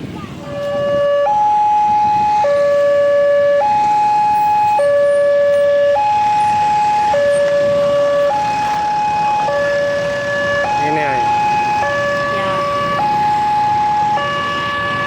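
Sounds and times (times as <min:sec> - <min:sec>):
level crossing two-tone alarm: 0:00.5 - 0:15.0.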